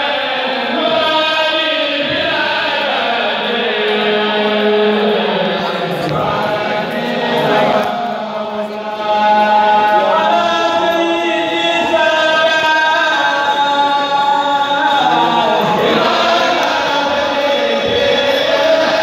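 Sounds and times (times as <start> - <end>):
men chanting in chorus: 0.0 - 19.0.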